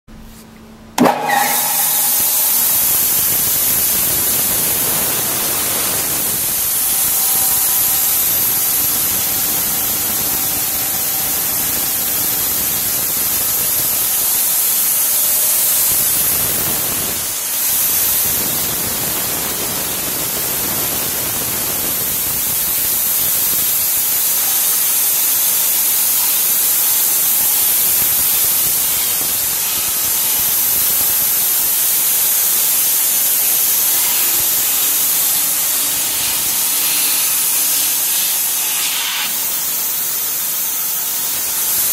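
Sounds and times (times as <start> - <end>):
band saw running with hiss: 1.0 - 41.9.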